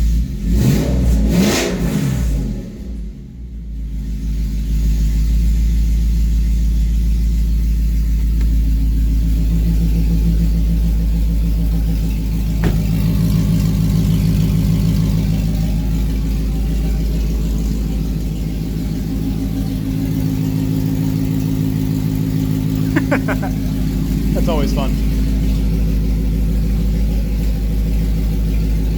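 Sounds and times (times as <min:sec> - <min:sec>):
car engine idling loud: 0:00.0 - 0:28.9.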